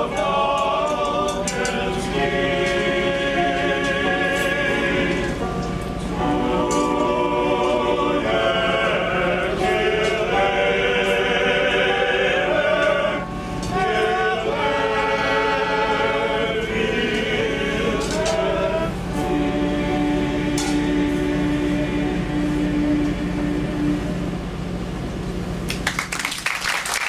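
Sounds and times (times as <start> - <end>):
male choir singing: 0.0 - 25.0.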